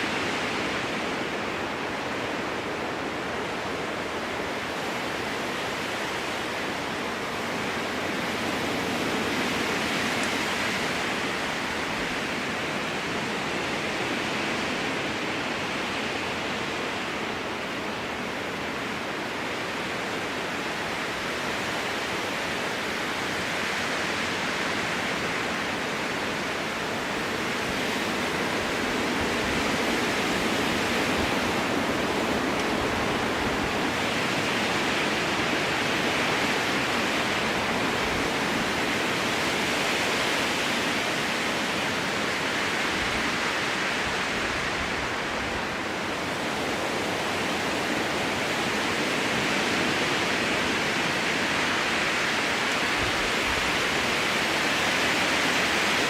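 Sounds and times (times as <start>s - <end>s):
strong wind through trees: 0.0s - 56.0s.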